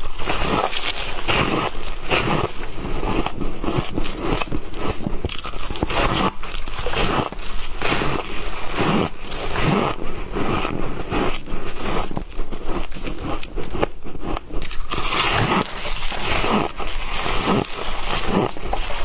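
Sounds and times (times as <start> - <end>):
person chewing crunchy frost: 0.0 - 19.0.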